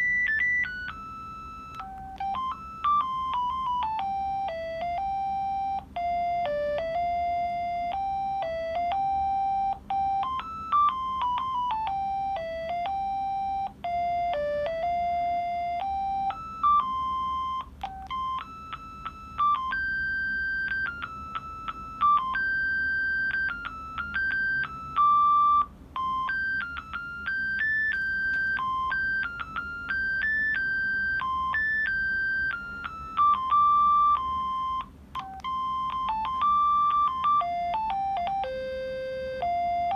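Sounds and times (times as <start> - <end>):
monophonic phone ringtone: 0.0 - 39.9.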